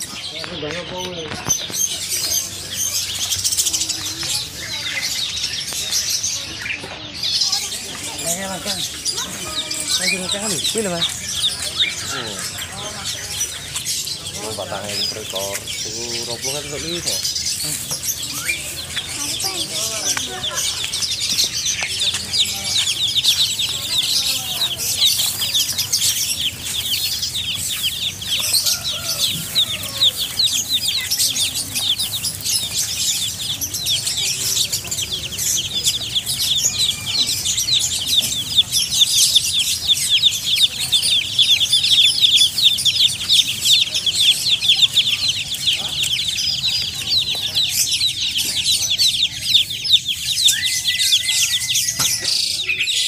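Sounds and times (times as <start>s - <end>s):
baby chicks peeping: 0.0s - 53.0s.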